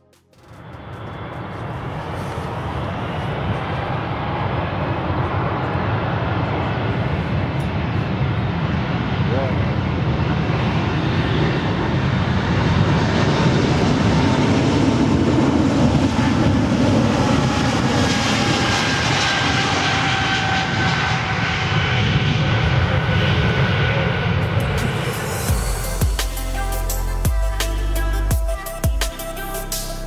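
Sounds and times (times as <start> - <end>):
jet engine whine: 0.0 - 27.2
jet engines roaring on runway: 0.3 - 27.0.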